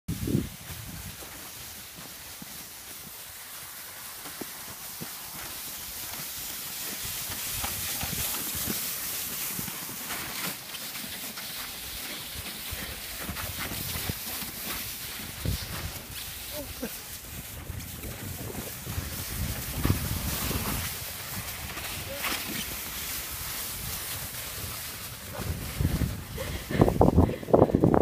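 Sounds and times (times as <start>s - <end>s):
footsteps crunching in snow: 0.1s - 28.0s
plastic sled scraping over snow: 0.1s - 28.0s.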